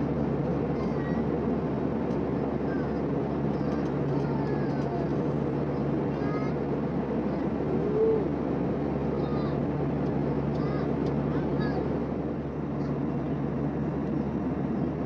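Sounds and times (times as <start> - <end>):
jet engine and airflow rush: 0.0 - 15.0
steady low hum: 0.0 - 15.0.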